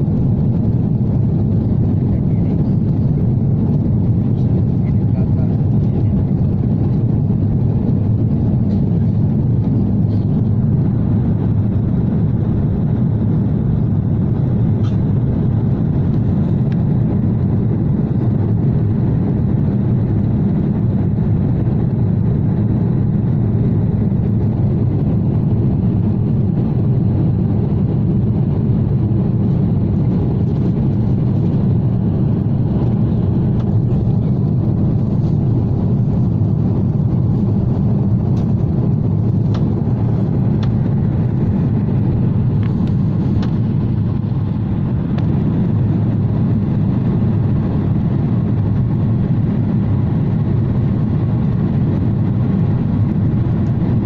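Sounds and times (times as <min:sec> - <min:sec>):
jet airliner cabin rumble: 0:00.0 - 0:54.0.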